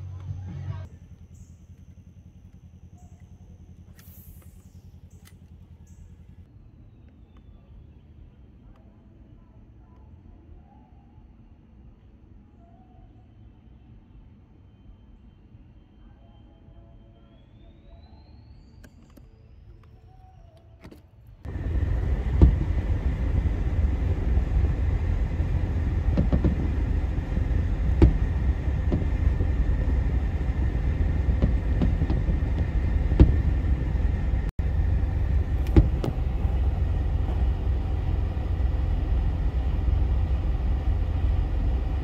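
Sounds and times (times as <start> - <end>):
low rumble inside a car: 0.0 - 42.0.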